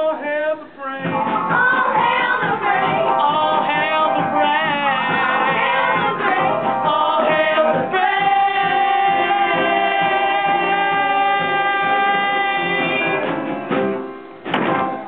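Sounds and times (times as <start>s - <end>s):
cast singing together: 0.0s - 13.3s.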